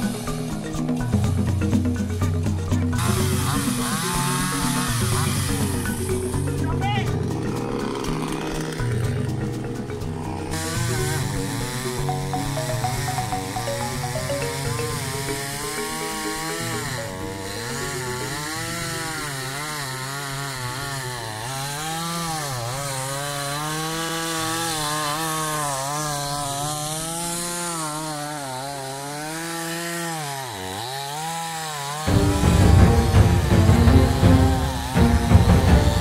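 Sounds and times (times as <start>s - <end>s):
chainsaw cutting wood: 0.0s - 36.0s.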